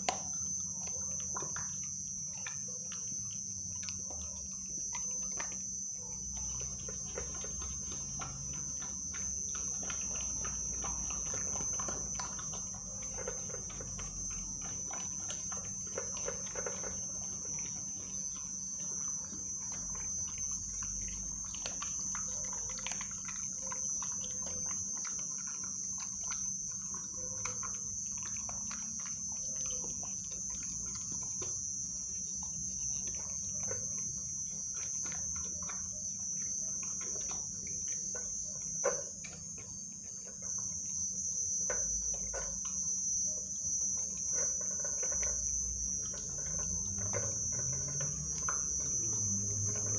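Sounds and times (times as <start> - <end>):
dog chewing and licking: 0.0 - 49.9.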